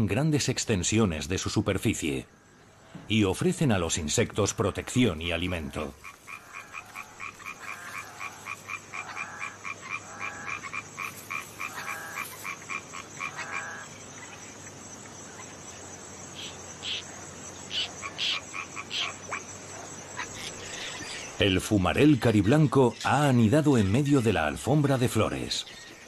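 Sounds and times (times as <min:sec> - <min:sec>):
frogs clicking calls: 0:01.0 - 0:26.0
deep frog croaks: 0:02.2 - 0:23.2.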